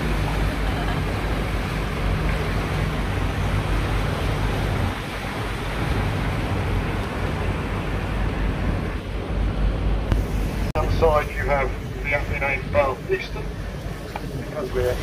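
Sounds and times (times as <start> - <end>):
boat engine humming: 0.0 - 15.0
rushing water: 0.0 - 15.0.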